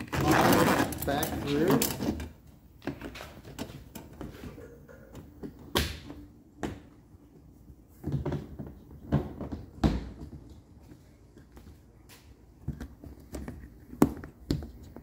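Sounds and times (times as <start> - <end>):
plastic hose knocks and scrapes: 0.1 - 11.7, 12.6 - 15.0.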